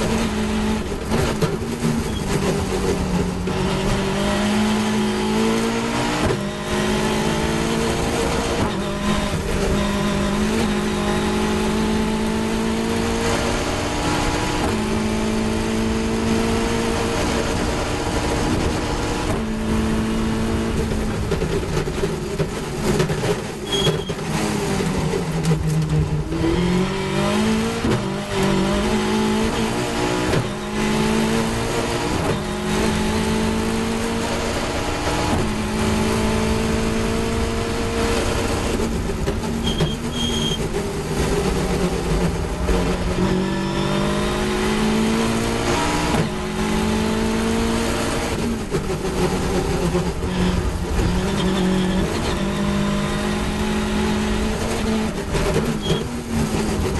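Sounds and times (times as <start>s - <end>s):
race car engine revving: 0.0s - 56.9s
wind and road noise: 0.0s - 56.9s.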